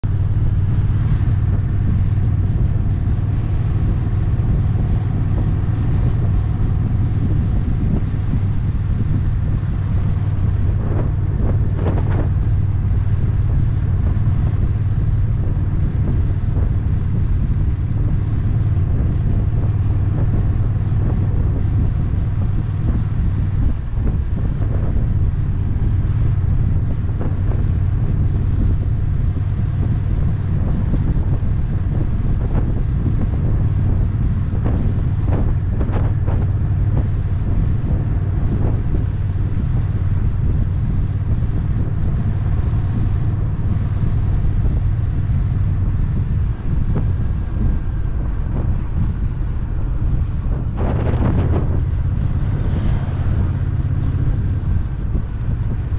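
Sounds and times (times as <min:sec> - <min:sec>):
motorcycle engine cruising: 0:00.0 - 0:55.9
wind noise on microphone: 0:00.0 - 0:55.9.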